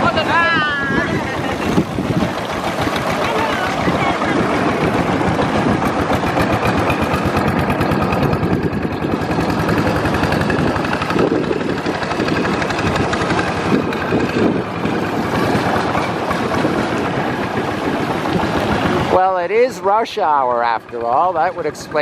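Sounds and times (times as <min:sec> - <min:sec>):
motorboat engine chugging: 0:00.0 - 0:22.0.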